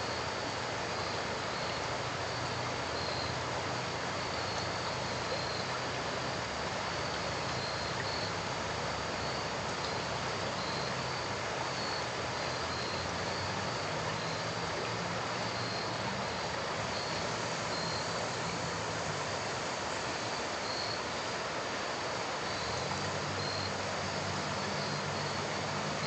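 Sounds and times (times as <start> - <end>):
insects chirping: 0.0 - 26.0
river current rushing: 0.0 - 26.0.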